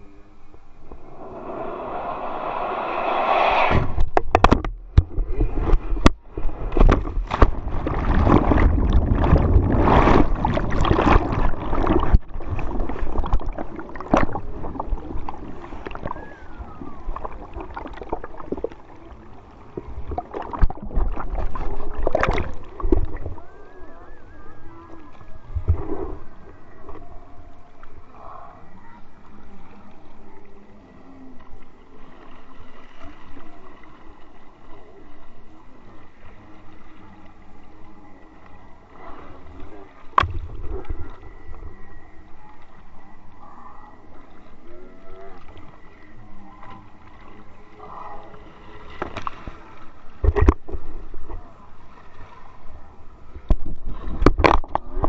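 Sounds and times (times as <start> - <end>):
water splashing and gurgling: 0.8 - 30.3, 31.2 - 55.0.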